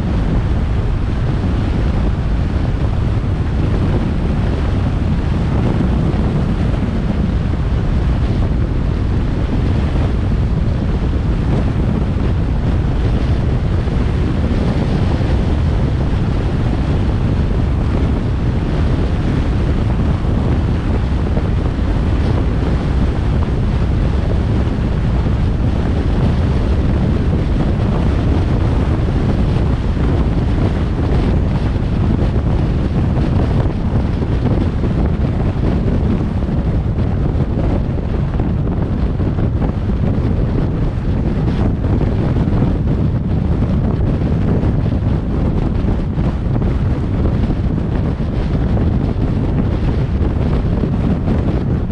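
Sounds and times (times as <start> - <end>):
road noise: 0.0 - 43.3
wind rumble on microphone: 0.0 - 51.9.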